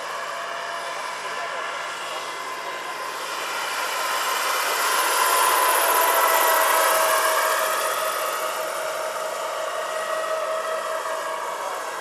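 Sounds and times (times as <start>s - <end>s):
model helicopter turbine whine: 0.0s - 12.0s.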